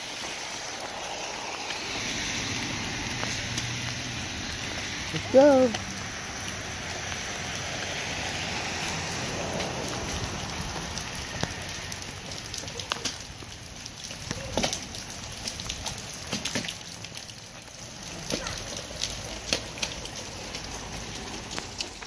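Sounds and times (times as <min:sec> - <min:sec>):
rain on pavement: 0:00.0 - 0:22.0.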